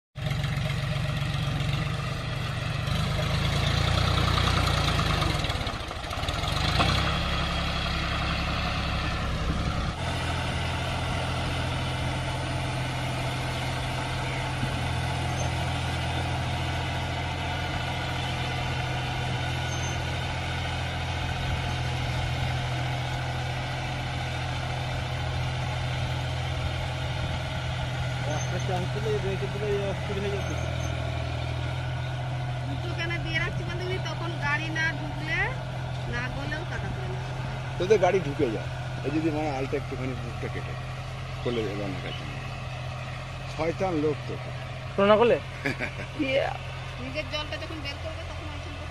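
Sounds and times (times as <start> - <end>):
tractor diesel engine running: 0.2 - 48.9.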